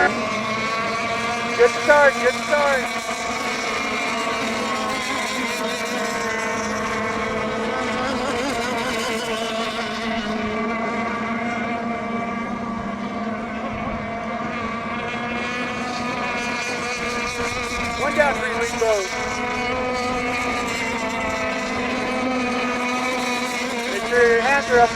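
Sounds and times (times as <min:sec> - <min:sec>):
racing boat engines buzzing: 0:00.0 - 0:24.9.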